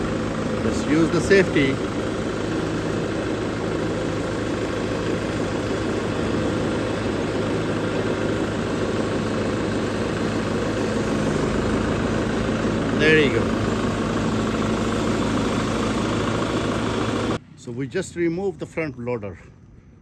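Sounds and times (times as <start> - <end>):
tractor diesel engine running: 0.0 - 19.7.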